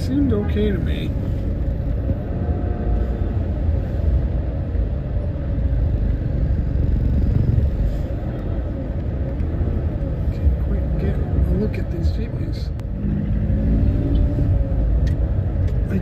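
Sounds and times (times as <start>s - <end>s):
idling car engines: 0.0s - 16.0s.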